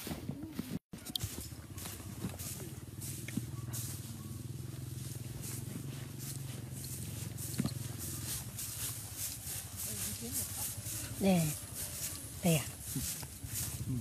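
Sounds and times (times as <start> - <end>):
footsteps crunching on straw: 0.0 - 14.0.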